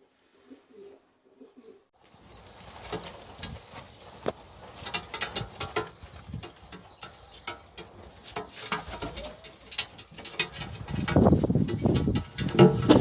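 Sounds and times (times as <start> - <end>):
pigeons clicking and tapping: 2.1 - 13.0.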